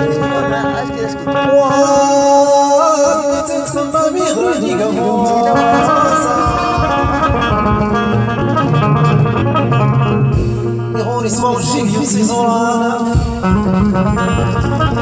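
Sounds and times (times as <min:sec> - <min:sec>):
man singing into microphone: 0:00.0 - 0:08.0, 0:10.9 - 0:15.0
keyboard beat: 0:00.0 - 0:15.0.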